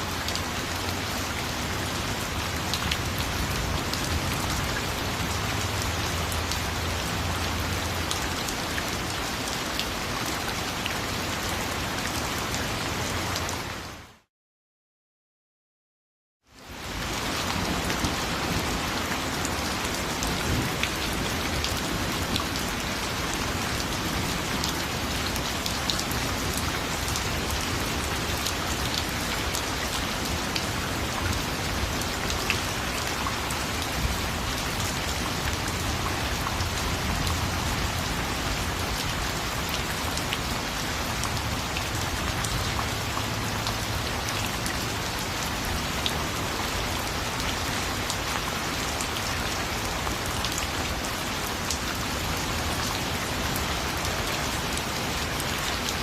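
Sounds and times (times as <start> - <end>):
heavy rain falling: 0.0 - 14.3, 16.6 - 56.0.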